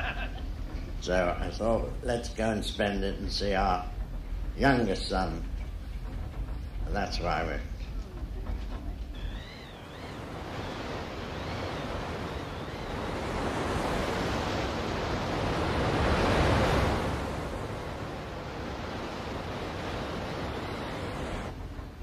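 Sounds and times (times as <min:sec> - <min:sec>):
sea waves rushing: 0:00.0 - 0:22.0
wind: 0:00.0 - 0:22.0.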